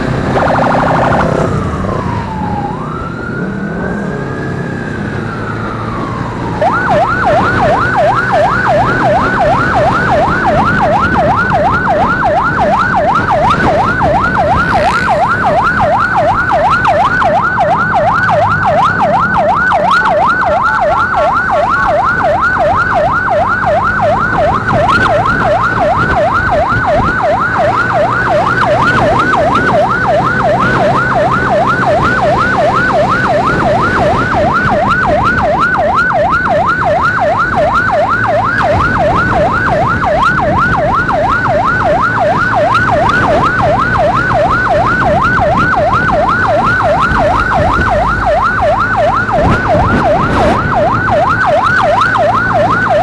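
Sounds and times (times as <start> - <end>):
electronic siren yelping: 0.0 - 53.0
motorcycle engine hum: 0.0 - 53.0.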